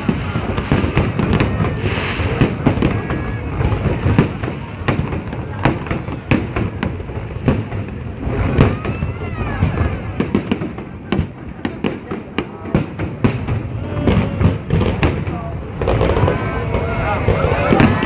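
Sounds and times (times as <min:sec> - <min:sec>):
crowd noise: 0:00.0 - 0:18.0
fireworks bursting: 0:00.0 - 0:18.0.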